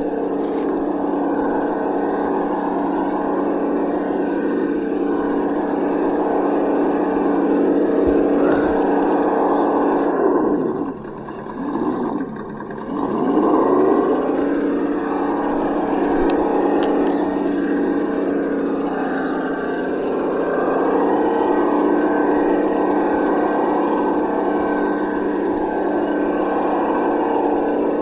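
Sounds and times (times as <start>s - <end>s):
toy car motor whirring: 0.0s - 28.0s.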